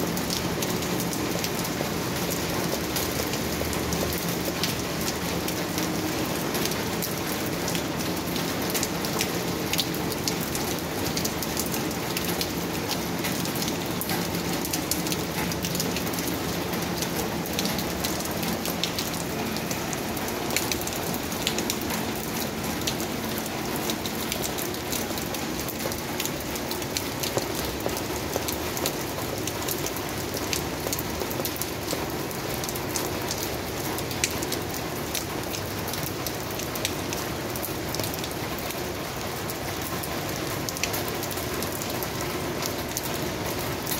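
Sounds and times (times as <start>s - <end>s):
heavy rain on pavement: 0.0s - 43.9s.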